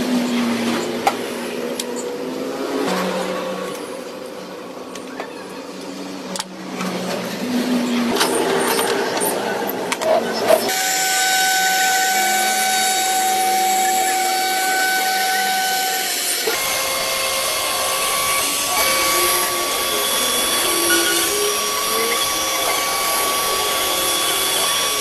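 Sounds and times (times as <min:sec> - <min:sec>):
router spindle whining: 0:00.0 - 0:25.0.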